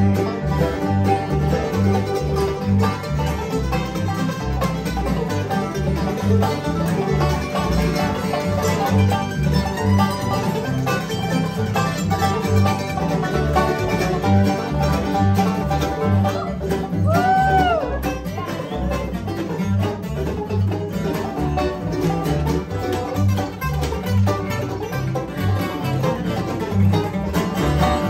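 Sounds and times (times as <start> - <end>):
bluegrass band playing: 0.0 - 28.0
upright bass plucking: 0.0 - 28.0.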